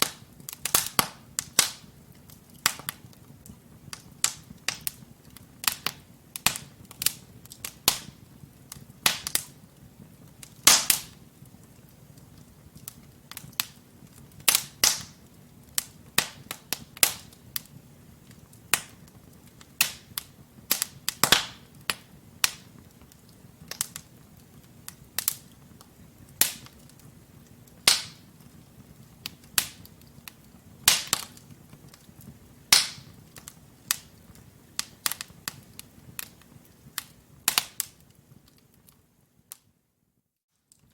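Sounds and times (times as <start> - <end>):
wood fire crackling: 0.0 - 39.8, 40.5 - 40.9.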